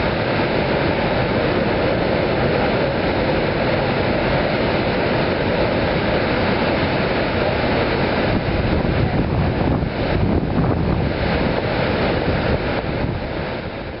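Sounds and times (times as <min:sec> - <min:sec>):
large waterfall rushing: 0:00.0 - 0:14.0.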